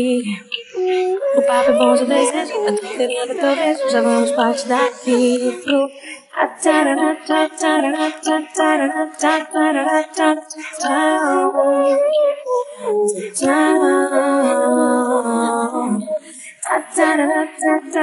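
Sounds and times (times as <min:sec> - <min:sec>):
woman singing a cappella: 0:00.0 - 0:18.0.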